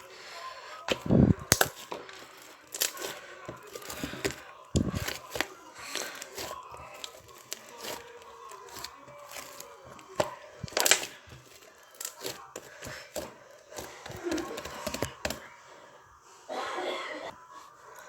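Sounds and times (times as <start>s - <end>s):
slime squished by hand: 0.9s - 15.4s.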